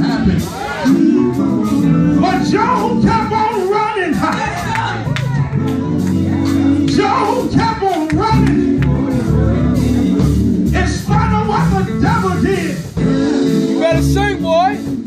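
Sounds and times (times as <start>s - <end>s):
low instrumental band notes: 0.0s - 15.0s
male group singing gospel: 0.0s - 15.0s.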